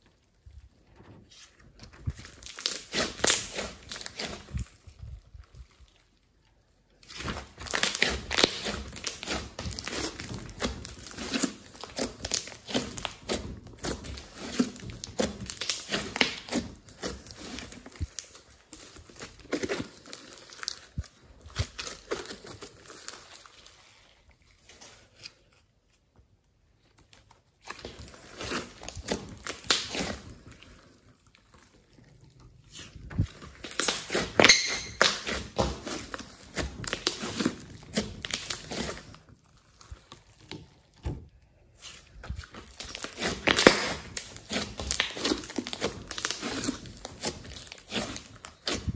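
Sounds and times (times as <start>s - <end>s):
slime crackling and popping: 1.4s - 24.0s, 27.0s - 48.9s.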